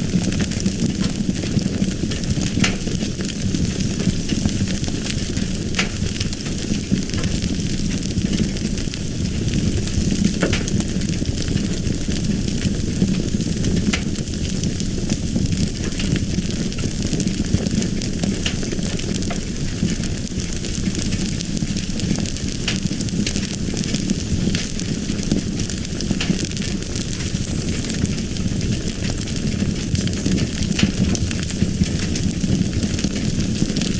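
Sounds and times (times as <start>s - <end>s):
fire crackling and popping: 0.0s - 33.9s
fire rumbling: 0.0s - 33.9s.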